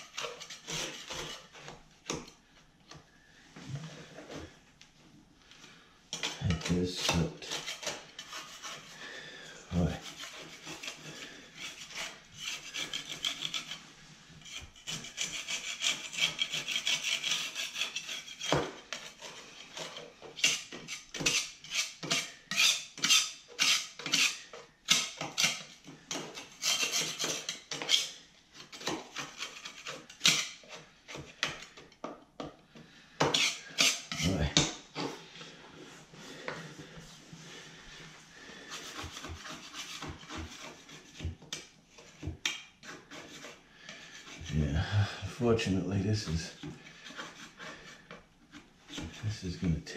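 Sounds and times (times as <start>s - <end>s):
metal tool scraping drywall: 0.0s - 2.4s, 6.1s - 32.0s, 33.2s - 49.9s.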